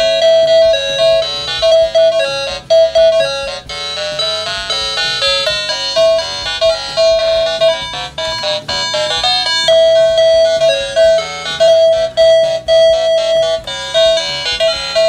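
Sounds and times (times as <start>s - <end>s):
electronic beeping toy tune: 0.0s - 15.0s.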